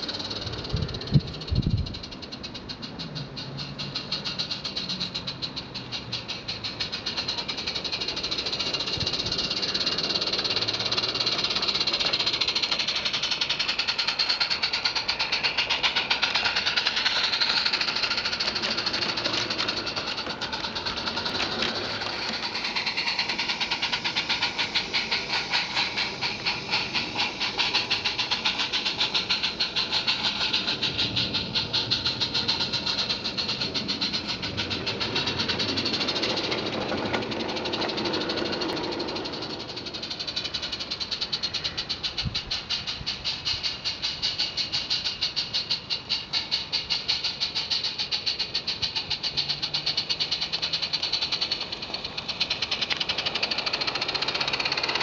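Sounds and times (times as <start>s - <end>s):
locomotive chuffing exhaust: 0.0s - 55.0s
steam hissing: 0.0s - 55.0s
wagons clattering over track: 0.0s - 55.0s.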